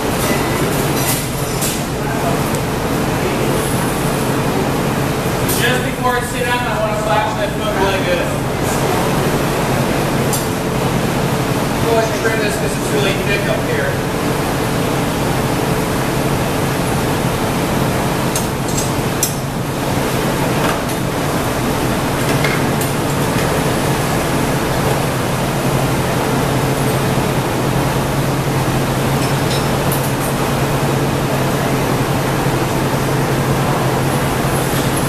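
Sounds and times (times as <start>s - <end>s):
furnace rushing noise with hum: 0.0s - 35.0s.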